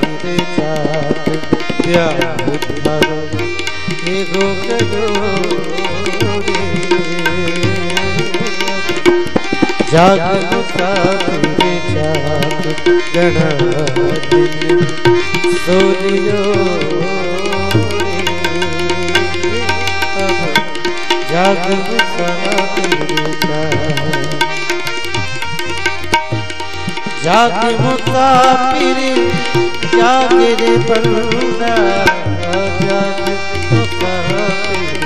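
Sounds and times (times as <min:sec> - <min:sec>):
melody instrument with sliding notes: 0:00.0 - 0:35.0
tabla playing a steady rhythm: 0:00.0 - 0:35.0.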